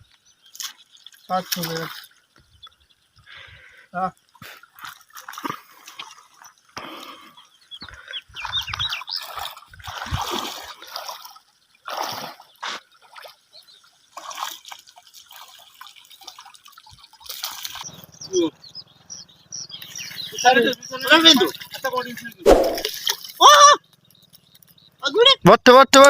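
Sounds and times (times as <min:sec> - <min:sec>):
shallow water splashing: 0:00.4 - 0:02.4, 0:03.3 - 0:18.0, 0:19.9 - 0:24.7.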